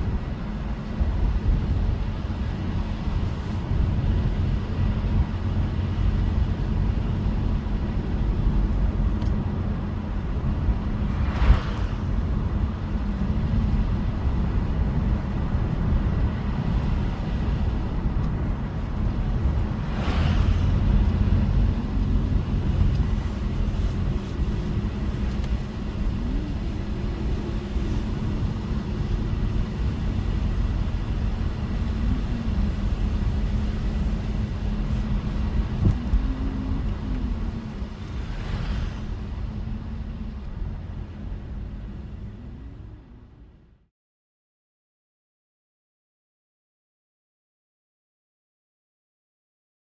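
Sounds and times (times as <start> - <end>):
car engine and tyre rumble: 0.0 - 43.9.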